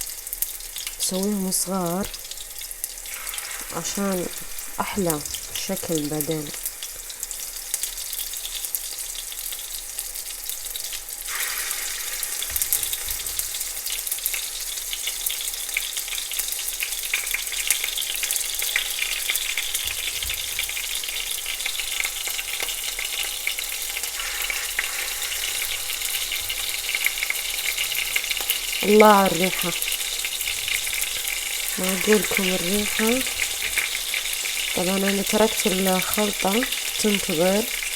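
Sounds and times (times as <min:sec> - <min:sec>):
food frying in hot oil: 0:00.0 - 0:37.9.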